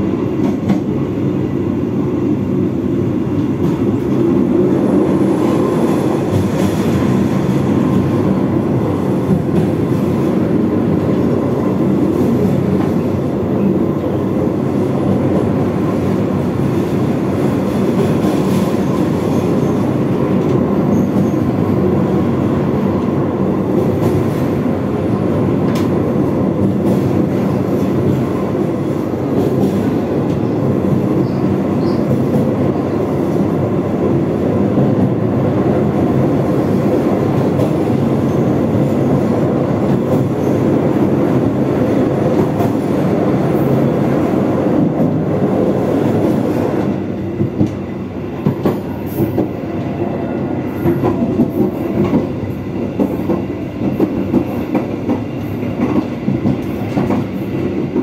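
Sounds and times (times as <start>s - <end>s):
train wheels rumbling on bridge: 0.0s - 58.0s.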